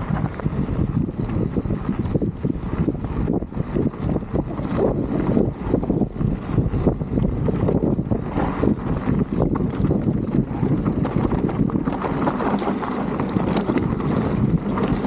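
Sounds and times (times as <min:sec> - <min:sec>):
clicks and rattles from stones: 0:00.0 - 0:02.9, 0:03.8 - 0:15.0
bike tyres rolling over gravel: 0:00.0 - 0:15.0
wind buffeting microphone: 0:00.0 - 0:15.0.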